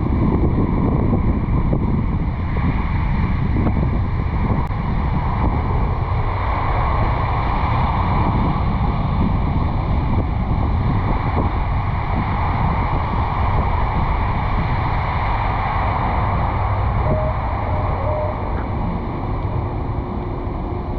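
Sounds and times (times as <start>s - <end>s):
road and tyre noise: 0.0s - 20.9s
wind rushing over microphone: 0.0s - 20.9s.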